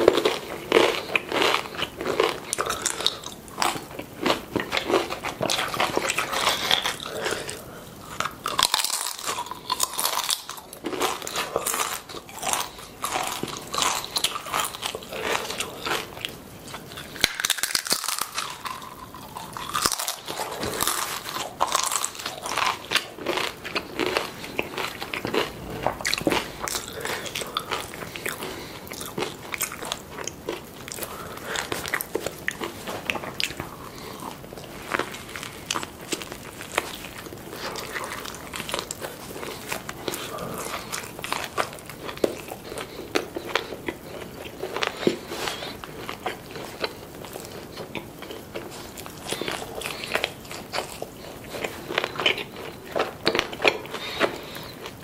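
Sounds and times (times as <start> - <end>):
crunching tortilla chips: 0.0 - 55.0
wet chewing: 0.0 - 55.0.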